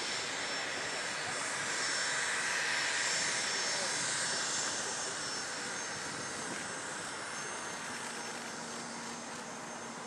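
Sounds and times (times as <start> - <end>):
high jet engine whine: 0.0 - 10.0
jet engine rush: 0.0 - 10.0.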